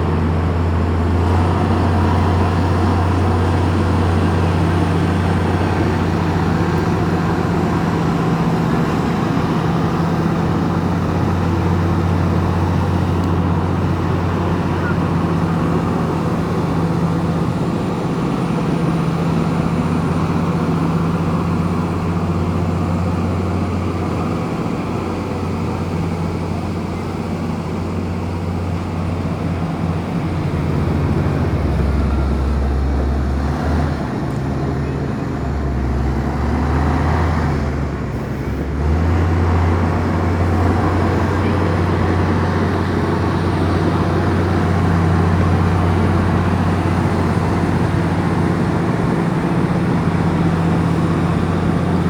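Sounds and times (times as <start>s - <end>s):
bulldozer diesel engine running: 0.0s - 52.0s.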